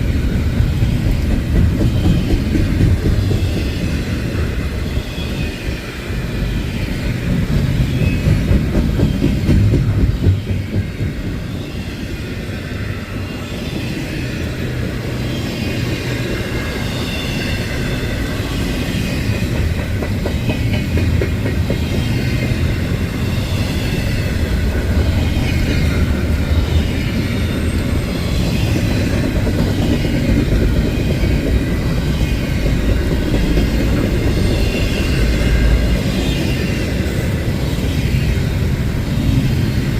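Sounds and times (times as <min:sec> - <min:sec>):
freight train rumbling on track: 0:00.0 - 0:39.9.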